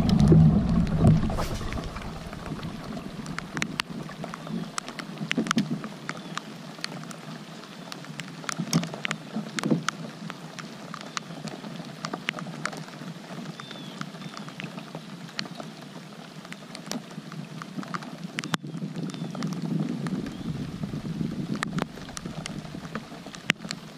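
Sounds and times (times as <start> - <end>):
raindrops ticking: 0.0 - 15.6, 16.4 - 23.9
steady rain: 0.0 - 23.9.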